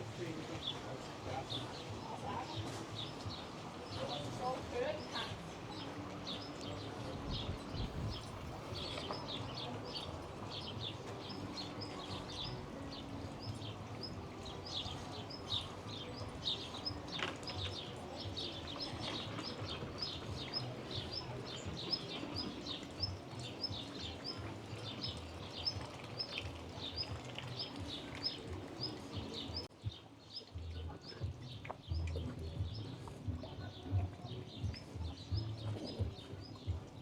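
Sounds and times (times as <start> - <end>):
low outdoor background noise: 0.0 - 37.0
songbirds chirping: 0.0 - 37.0.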